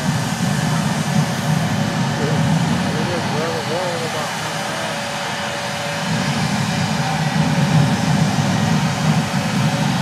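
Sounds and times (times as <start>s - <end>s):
jet engine rumble: 0.0s - 10.0s.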